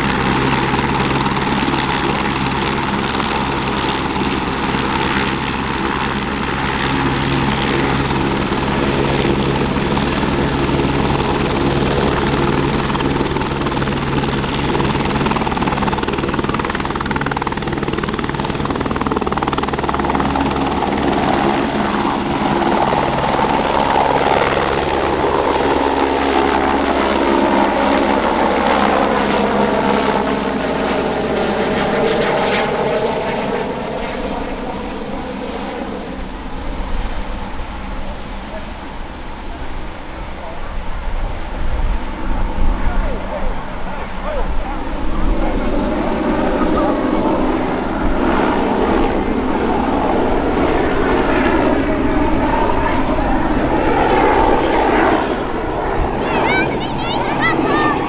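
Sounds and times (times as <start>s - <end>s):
helicopter rotor beat: 0.0s - 58.0s
high turbine whine: 0.0s - 58.0s.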